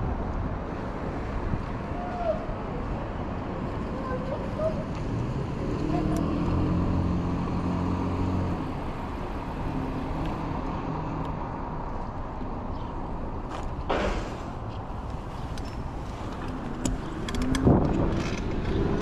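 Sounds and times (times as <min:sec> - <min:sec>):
road and wind noise: 0:00.0 - 0:19.0
vehicle hum passing: 0:00.6 - 0:19.0.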